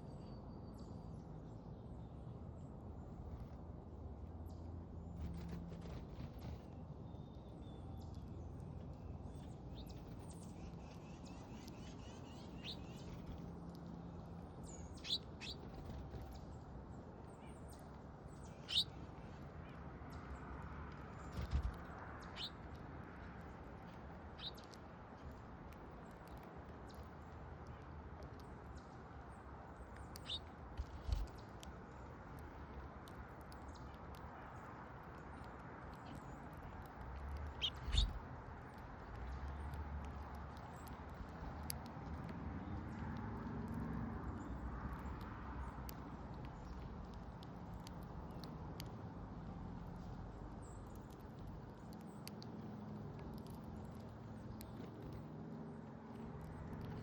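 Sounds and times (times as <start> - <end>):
songbirds chirping: 4.4 - 57.0.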